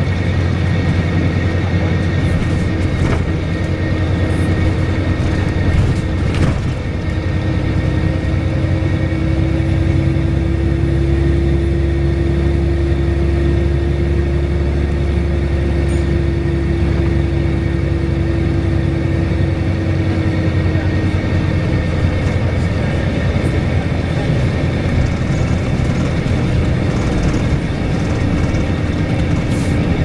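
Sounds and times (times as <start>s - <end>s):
bus diesel engine rumbling: 0.0s - 30.0s
steady droning tone: 0.0s - 30.0s.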